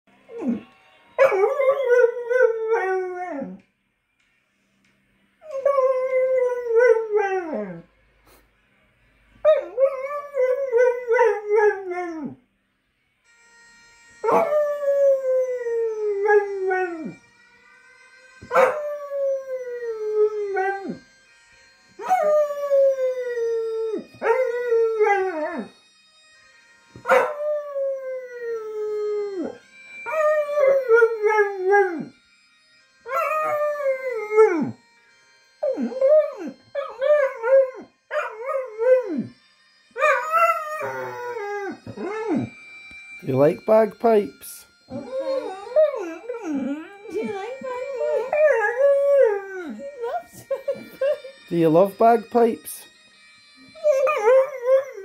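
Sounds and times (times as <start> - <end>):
bagpipe music from a phone: 0.1 - 55.0.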